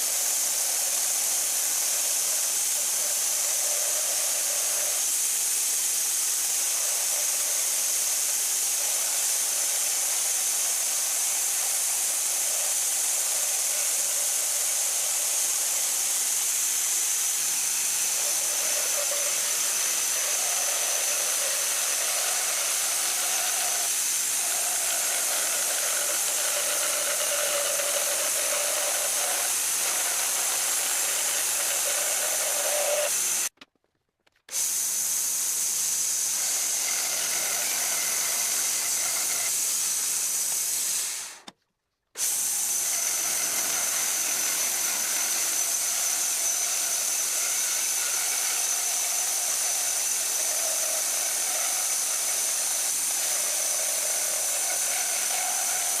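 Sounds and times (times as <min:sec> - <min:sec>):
machine tool hiss and whine: 0:00.0 - 0:33.6, 0:34.5 - 0:41.5, 0:42.2 - 0:56.0.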